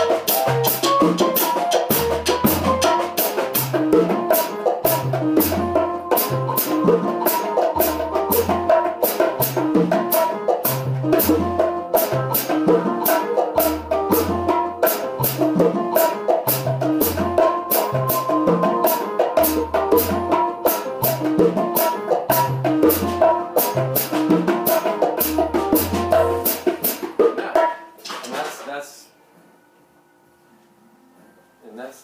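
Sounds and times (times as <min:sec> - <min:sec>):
bongo slaps and tones: 0:00.0 - 0:28.6.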